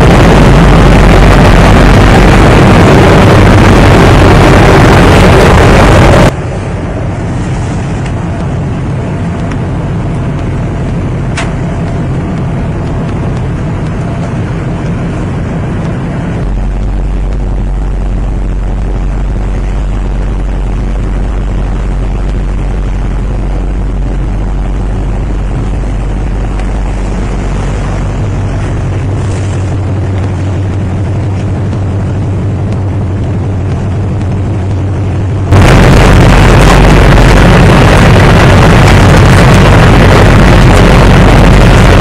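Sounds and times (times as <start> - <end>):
ship engine rumbling: 0.0 - 42.0.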